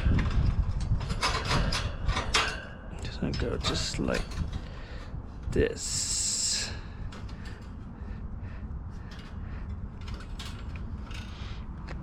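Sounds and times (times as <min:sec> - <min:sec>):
wire clicking and scraping: 0:00.0 - 0:08.0, 0:08.9 - 0:12.0.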